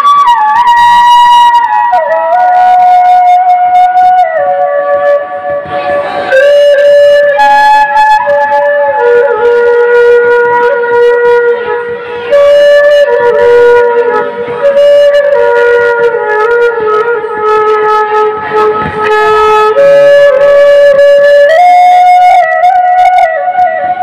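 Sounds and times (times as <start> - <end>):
solo flute melody: 0.0 - 24.0.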